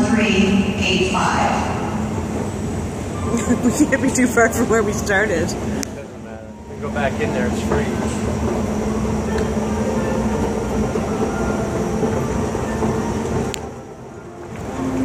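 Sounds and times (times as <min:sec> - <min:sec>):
subway train hum and rumble: 0:00.0 - 0:15.0.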